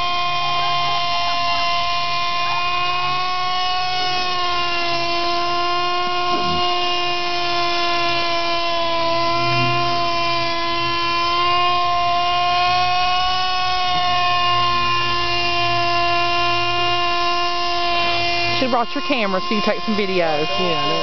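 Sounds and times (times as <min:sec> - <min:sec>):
model helicopter engine buzzing: 0:00.0 - 0:21.0.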